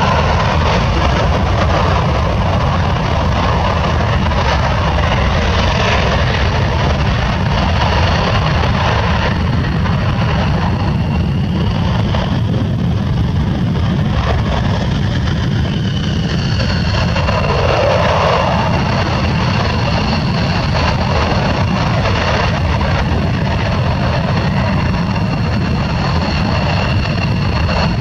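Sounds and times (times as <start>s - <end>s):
high jet whine: 0.0s - 28.0s
higher jet whine: 0.0s - 28.0s
jet engine deep rumble: 0.0s - 28.0s.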